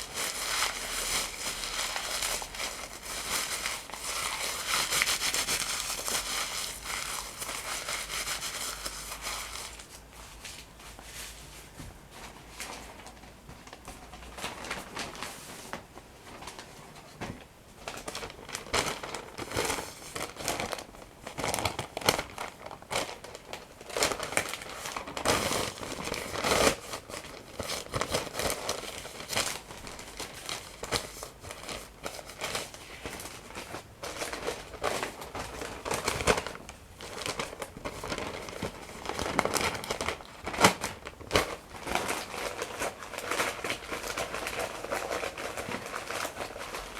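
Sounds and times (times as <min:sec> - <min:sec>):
paper crumpling: 0:00.0 - 0:16.8, 0:17.8 - 0:46.9.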